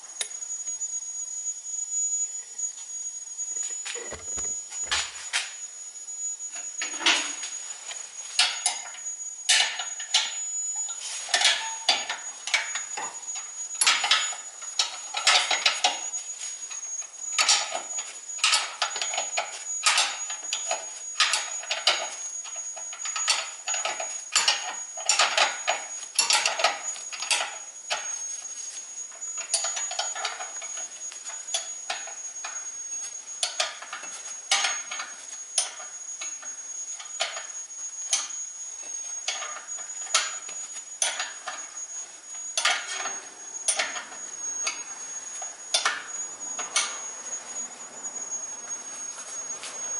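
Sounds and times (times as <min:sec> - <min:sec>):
faint high-pitched whine: 0:00.0 - 0:49.9.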